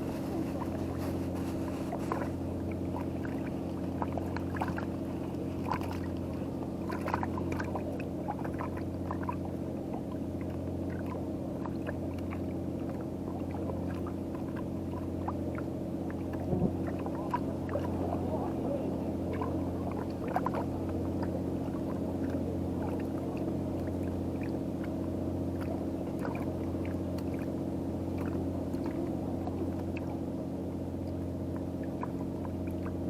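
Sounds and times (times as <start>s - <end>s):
engine idling: 0.0s - 33.0s
water splashing and trickling: 0.0s - 33.0s.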